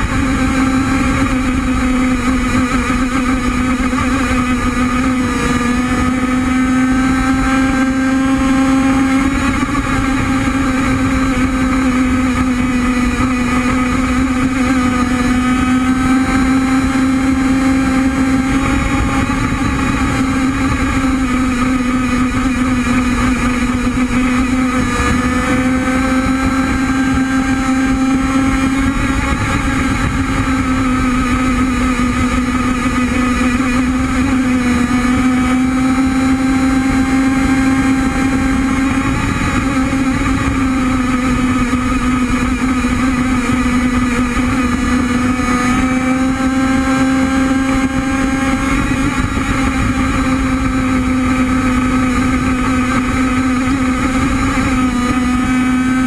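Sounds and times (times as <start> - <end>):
model boat engine buzzing: 0.0 - 56.0.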